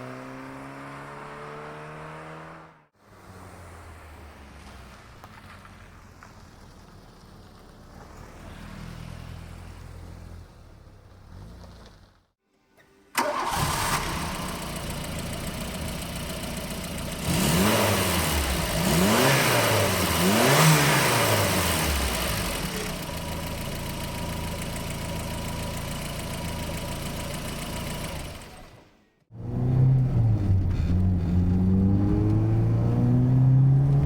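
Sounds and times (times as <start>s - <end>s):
car engine idling and revving: 0.0s - 12.4s, 13.2s - 34.0s.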